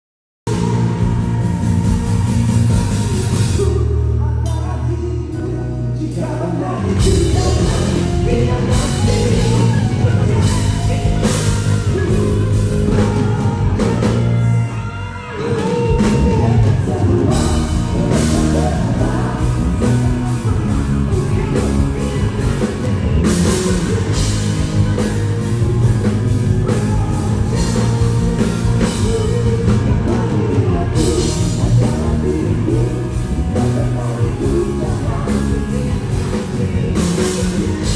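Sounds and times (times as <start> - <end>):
person singing: 0.5 - 37.9
rock band playing: 0.5 - 37.9.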